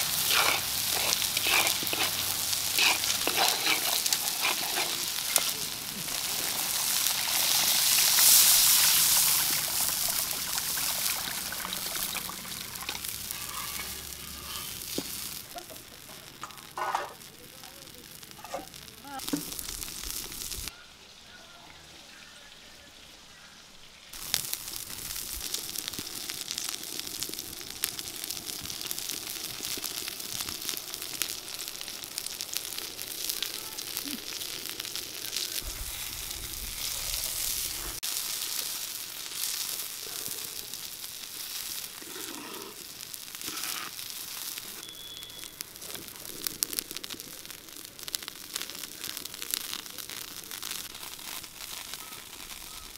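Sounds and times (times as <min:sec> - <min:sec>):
curry sizzling in a pan: 0:00.0 - 0:52.9.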